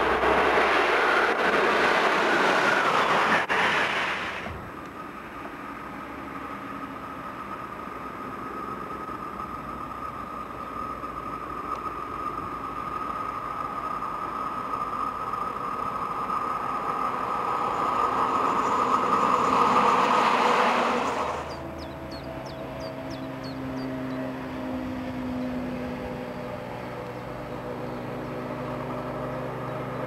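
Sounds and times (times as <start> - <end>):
electric locomotive approaching: 0.0 - 30.0
steady high whine: 0.0 - 30.0.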